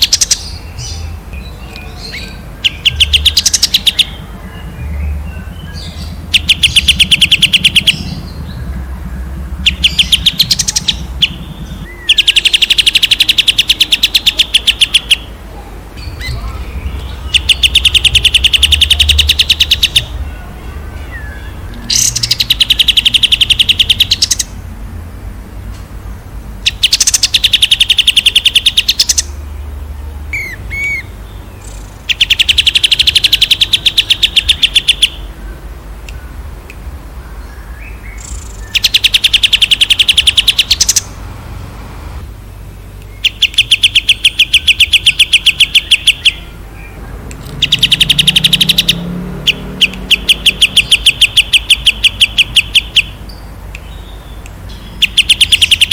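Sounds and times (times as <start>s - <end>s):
songbird singing fast trills: 0.0s - 15.4s, 16.0s - 24.6s, 26.5s - 41.2s, 42.4s - 55.9s.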